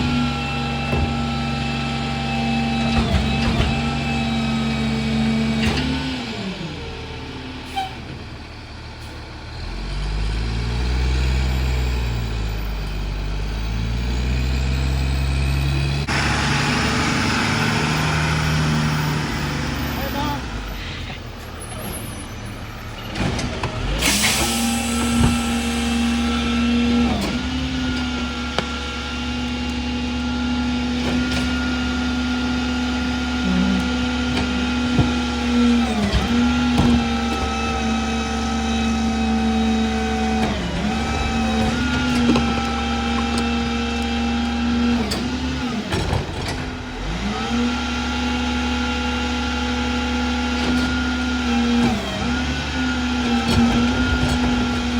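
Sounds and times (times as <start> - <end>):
garbage truck engine whining: 0.0 - 54.9.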